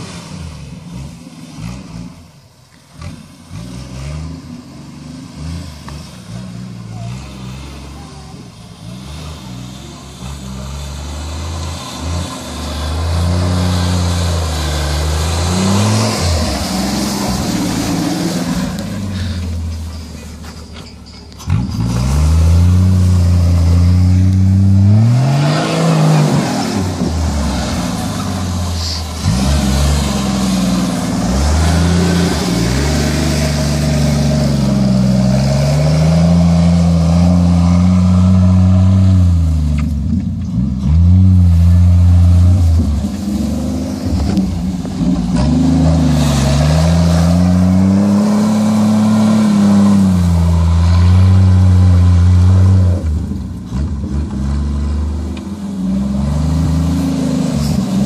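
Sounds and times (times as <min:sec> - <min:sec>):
engine revving under load: 0:02.9 - 0:19.7, 0:21.5 - 0:58.0.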